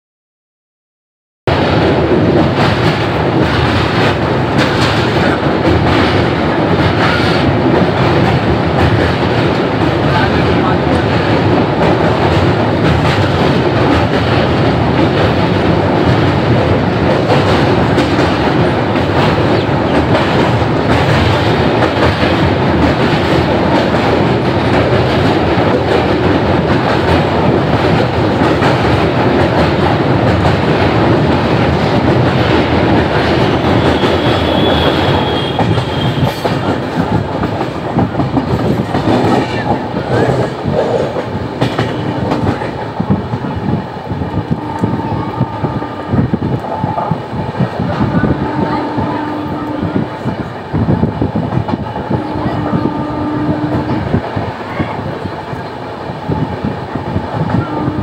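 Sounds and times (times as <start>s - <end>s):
train wheels clattering on rails: 1.5s - 58.0s.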